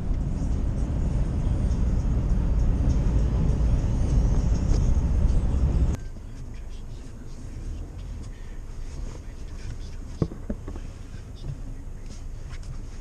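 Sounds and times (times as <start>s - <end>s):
vehicle cabin road rumble: 0.0s - 13.0s.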